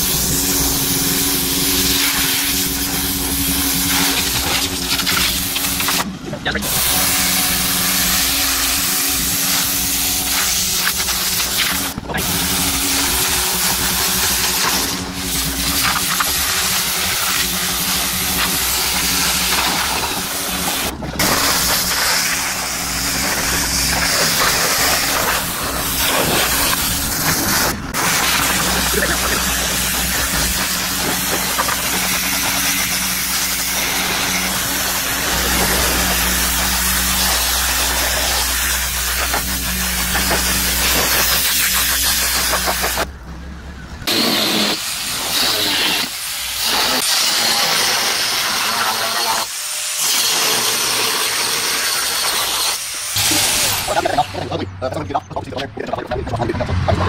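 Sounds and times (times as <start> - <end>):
pressure washer spray hissing: 0.0 - 43.1, 44.1 - 54.5
washer motor hum: 0.0 - 57.0.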